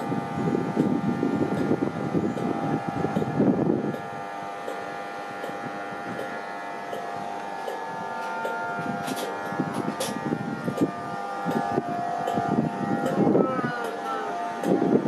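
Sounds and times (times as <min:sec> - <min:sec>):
electric train whine: 0:00.0 - 0:15.0
sharp clicks: 0:02.4 - 0:14.8.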